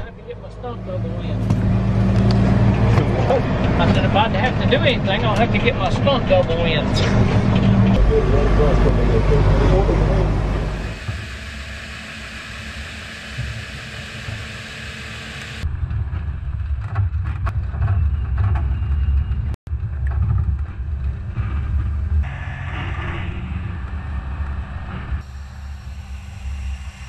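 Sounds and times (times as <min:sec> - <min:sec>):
truck diesel engine rumble: 0:00.0 - 0:27.0
tyres on rough lane: 0:00.0 - 0:27.0.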